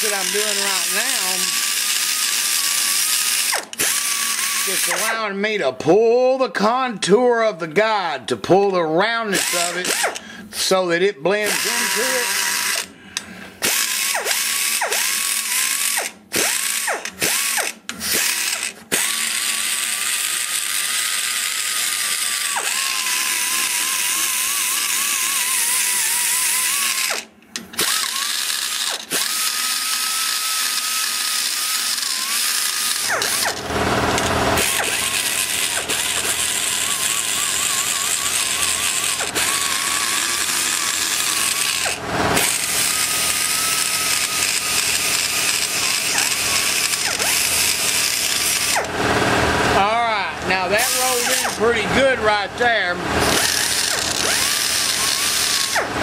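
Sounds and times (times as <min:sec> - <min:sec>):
die grinder whining: 0:00.0 - 0:05.4, 0:09.1 - 0:56.0.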